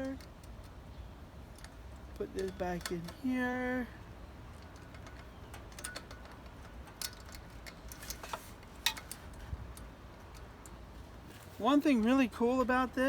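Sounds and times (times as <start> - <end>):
small parts clicking and tapping: 0.0 - 10.8.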